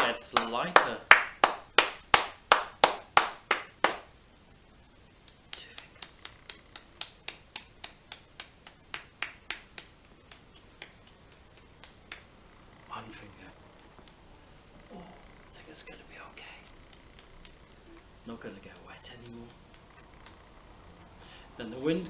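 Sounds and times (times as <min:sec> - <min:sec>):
hands tapping body percussion: 0:00.0 - 0:04.1, 0:05.2 - 0:14.3, 0:15.5 - 0:22.0.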